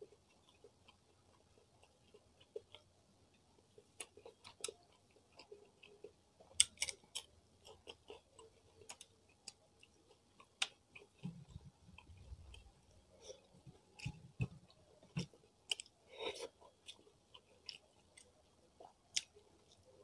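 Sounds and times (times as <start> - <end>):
chewing fried fish: 0.0 - 20.0.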